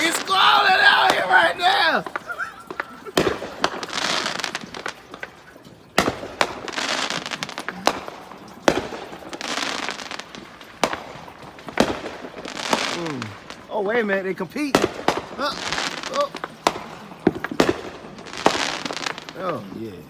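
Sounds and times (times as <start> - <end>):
fireworks bangs: 0.0 - 20.0
fireworks crackle: 0.0 - 20.0.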